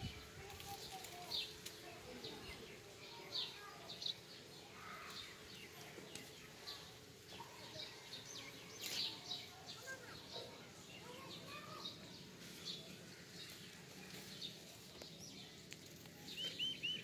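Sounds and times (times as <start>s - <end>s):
faint outdoor ambience: 0.0s - 17.0s
small birds chirping: 0.0s - 17.0s.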